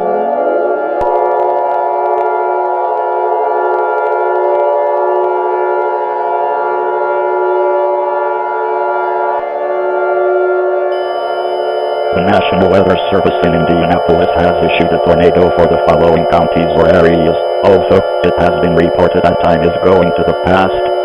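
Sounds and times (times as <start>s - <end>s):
alert siren chord: 0.0s - 21.0s.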